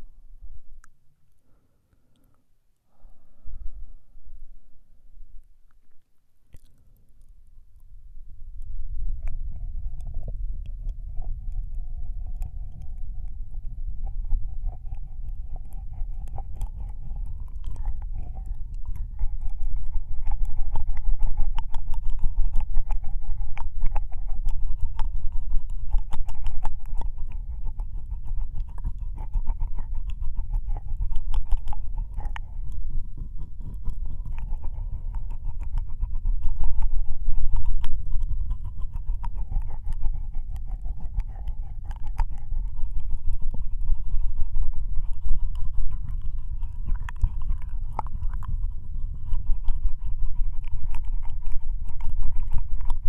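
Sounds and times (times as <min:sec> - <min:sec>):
low rumble: 0:03.0 - 0:05.8, 0:07.0 - 0:53.0
wet mouth clicks and smacks: 0:05.7 - 0:07.6, 0:08.6 - 0:53.0.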